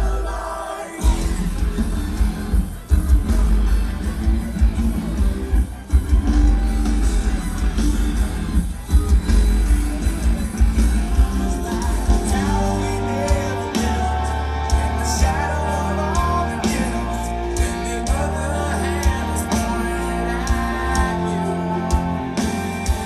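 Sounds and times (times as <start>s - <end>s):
live rock band playing: 1.0s - 23.0s.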